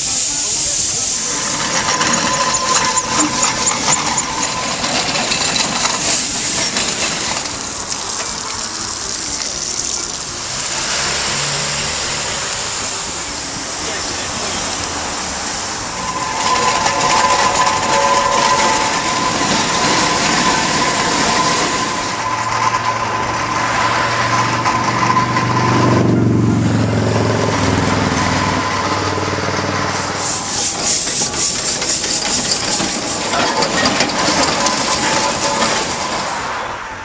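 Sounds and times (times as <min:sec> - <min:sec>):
road traffic rattle: 0:00.0 - 0:37.0
steam engine hissing and rattling: 0:00.0 - 0:37.0
passing vehicle engine: 0:01.2 - 0:31.8.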